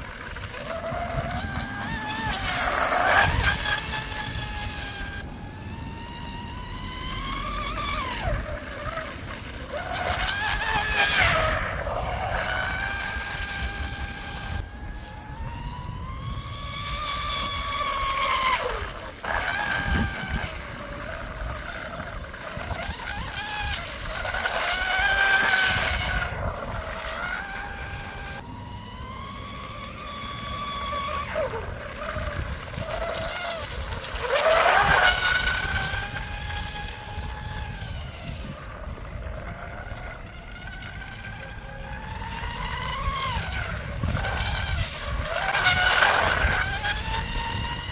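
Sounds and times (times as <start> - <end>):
high electric motor whine: 0.0 - 47.9.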